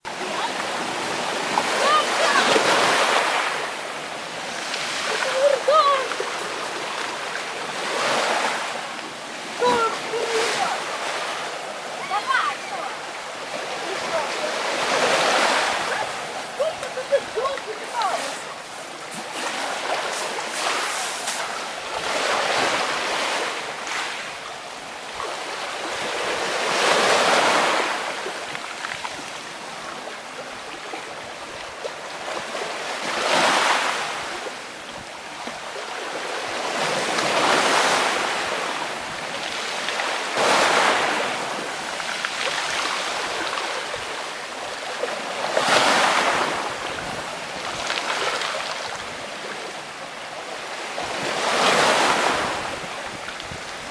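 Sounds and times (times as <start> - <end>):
steady wash of surf: 0.0 - 53.9
waves breaking on shore: 0.0 - 53.9.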